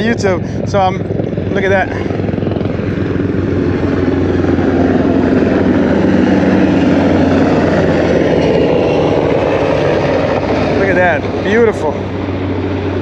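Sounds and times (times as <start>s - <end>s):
helicopter rotors chopping: 0.0s - 13.0s.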